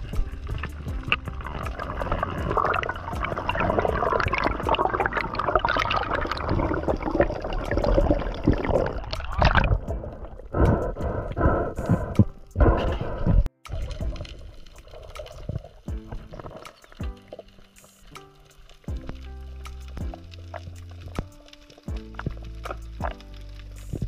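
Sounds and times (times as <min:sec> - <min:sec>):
underwater water gurgling: 0:00.0 - 0:19.3.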